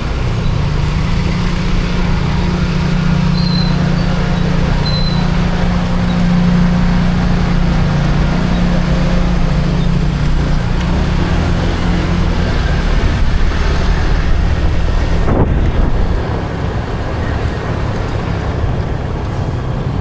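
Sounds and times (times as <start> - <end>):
road and wind noise: 0.0 - 20.0
vehicle engine hum: 0.0 - 20.0.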